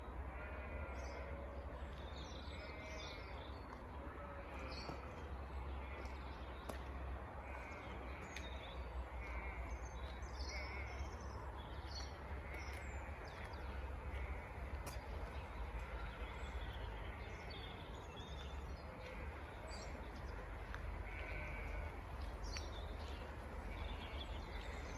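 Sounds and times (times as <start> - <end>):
wild birds chirping: 0.1 - 24.9.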